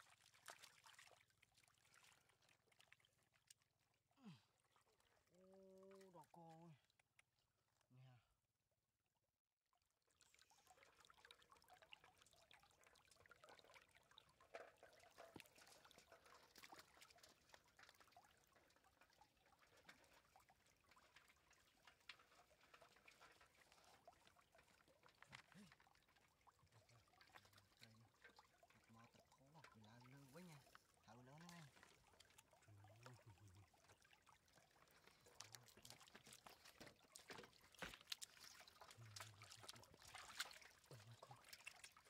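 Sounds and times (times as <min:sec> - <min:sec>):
water trickling over stones: 0:00.0 - 0:08.5, 0:09.8 - 0:42.0
small clicks and splashes: 0:00.0 - 0:08.8, 0:09.7 - 0:42.0.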